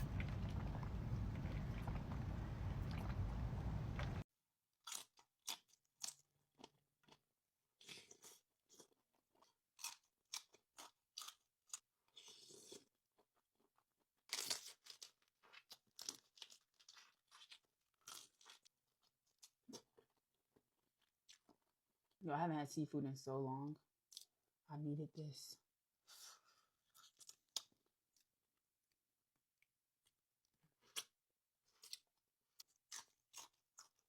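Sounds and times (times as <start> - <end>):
crunchy food being chewed: 0.0 - 4.2, 4.8 - 22.2, 26.1 - 28.4, 29.6 - 34.0.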